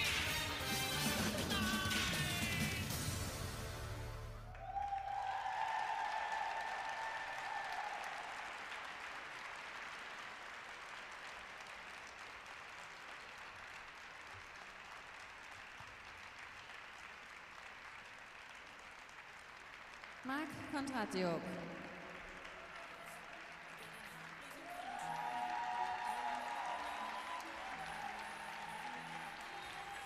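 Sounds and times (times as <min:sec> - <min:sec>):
audience applauding: 0:03.8 - 0:30.0.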